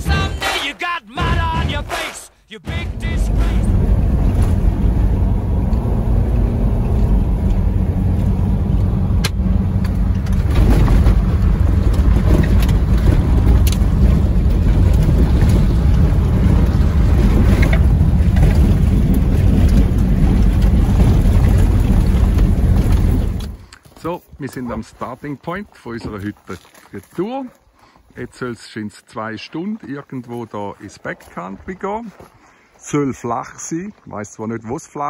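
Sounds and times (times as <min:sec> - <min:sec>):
car driving on gravel road: 0:02.7 - 0:34.9.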